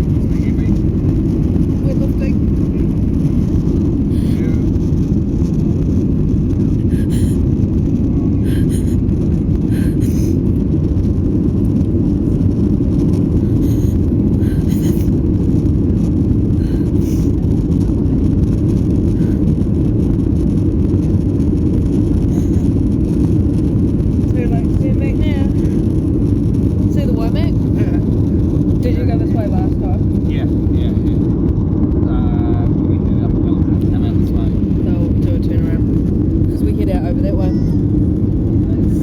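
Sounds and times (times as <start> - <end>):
jet engines and rushing air rumble: 0.0 - 39.0.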